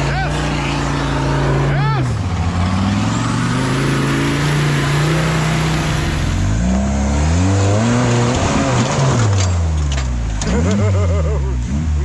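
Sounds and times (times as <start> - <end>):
engine running and revving: 0.0 - 12.0.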